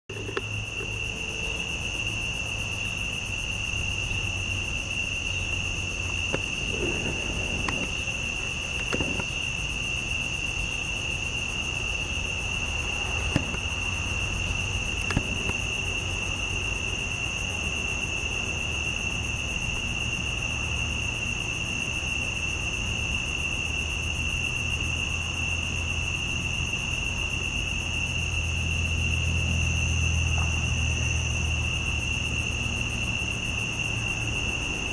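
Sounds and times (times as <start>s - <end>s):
night insects trilling: 0.1s - 34.9s.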